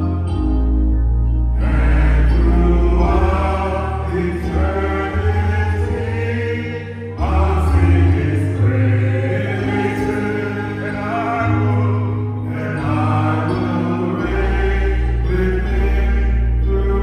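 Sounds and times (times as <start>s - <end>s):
worship song on electronic keyboard: 0.0s - 17.0s
choir-like voices: 1.5s - 17.0s.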